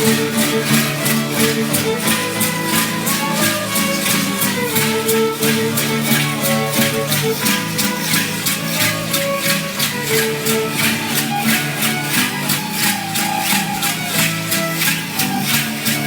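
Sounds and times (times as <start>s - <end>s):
folk dance music on violin and guitar: 0.0s - 16.0s.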